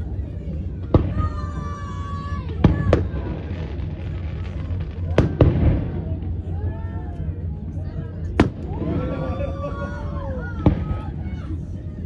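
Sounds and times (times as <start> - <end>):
low rumble: 0.0 - 12.0
fireworks booming: 0.1 - 11.4.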